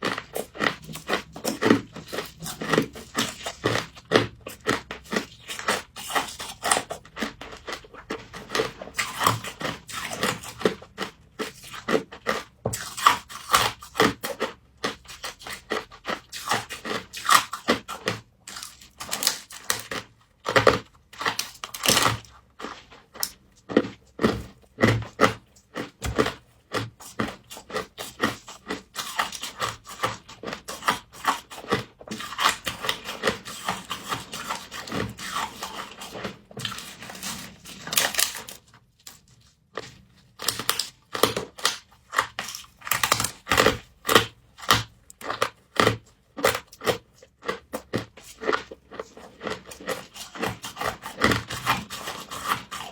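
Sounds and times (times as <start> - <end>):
chewing and crunching frost: 0.0 - 52.9.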